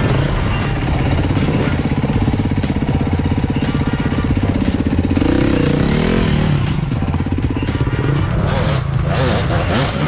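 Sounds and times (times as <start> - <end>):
motorcycle engines running: 0.0 - 10.0.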